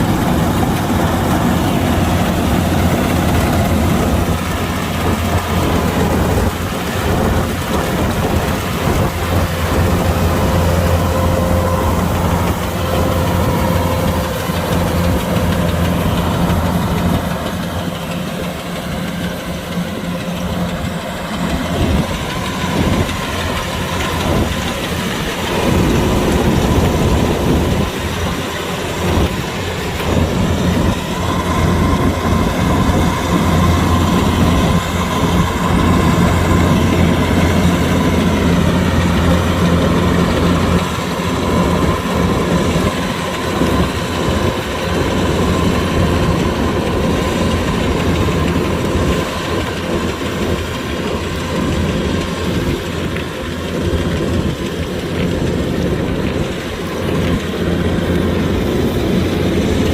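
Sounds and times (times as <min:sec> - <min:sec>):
diesel engine humming: 0:00.0 - 0:59.9.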